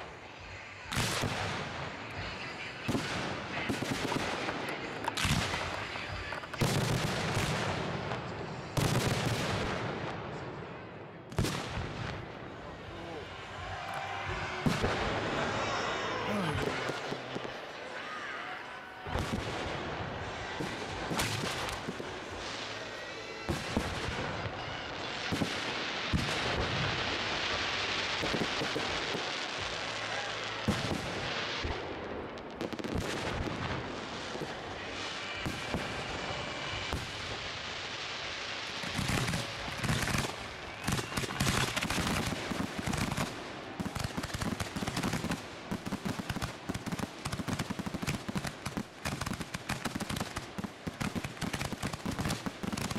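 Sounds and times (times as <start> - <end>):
fireworks crackling: 0.0 - 52.9
fireworks launches and bursts: 0.0 - 52.9.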